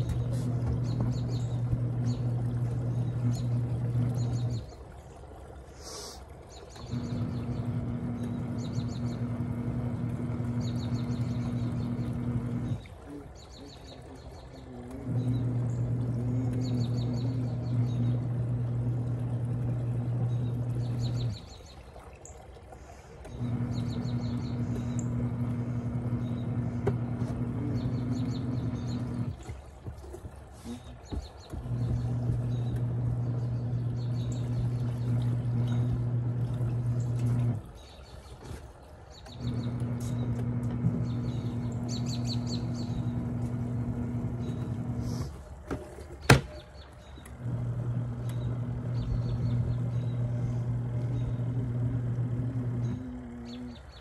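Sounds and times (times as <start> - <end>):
birds chirping: 0.0 - 54.0
washing machine motor humming: 0.0 - 54.0.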